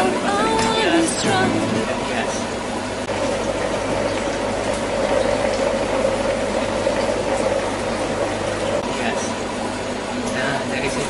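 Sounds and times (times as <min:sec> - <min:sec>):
aquarium water bubbling: 0:00.0 - 0:11.0
steady low hum: 0:00.0 - 0:11.0.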